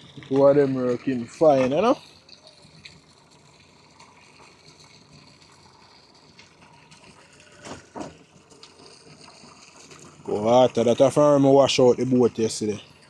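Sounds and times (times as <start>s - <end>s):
bilge pump rushing water: 0.0s - 13.0s.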